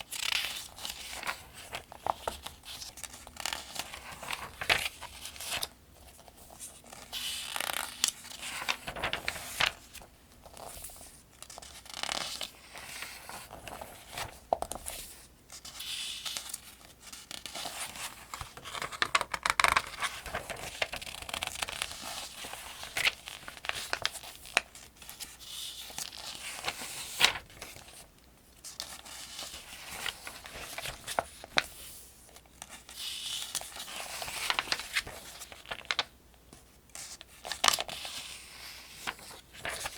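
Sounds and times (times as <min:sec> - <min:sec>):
paper pages turning: 0:00.0 - 0:28.0, 0:28.6 - 0:39.9.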